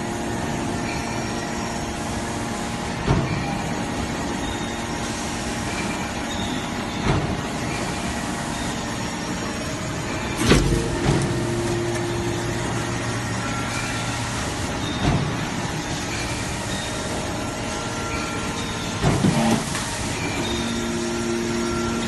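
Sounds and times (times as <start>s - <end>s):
hammer press mechanical noise: 2.9s - 22.0s.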